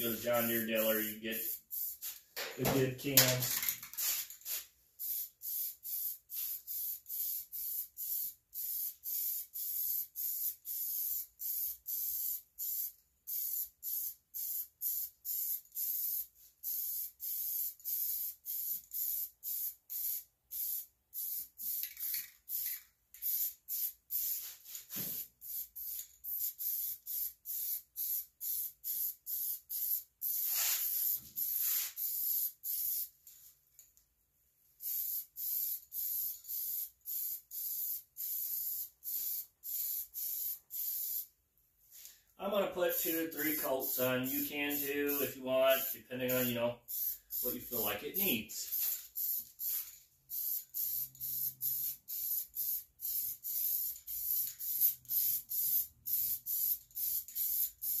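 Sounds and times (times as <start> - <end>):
spray paint can hissing: 0.4 - 2.5, 3.8 - 33.1, 34.8 - 41.3, 42.9 - 58.0.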